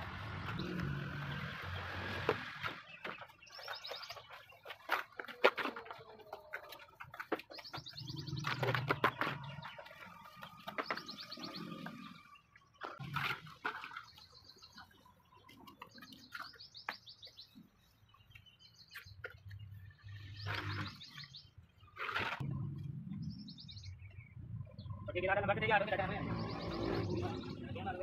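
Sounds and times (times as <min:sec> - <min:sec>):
small birds chirping: 0:00.0 - 0:13.1, 0:13.8 - 0:28.0.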